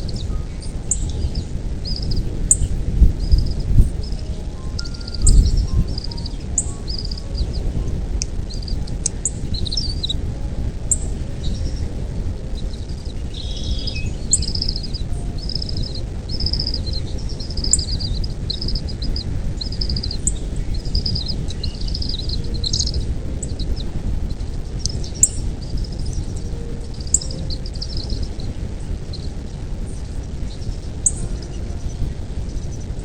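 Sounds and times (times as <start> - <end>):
bird chirping: 0.0 - 33.0
sharp high ticks: 0.0 - 33.0
steady low rumble: 0.0 - 33.0.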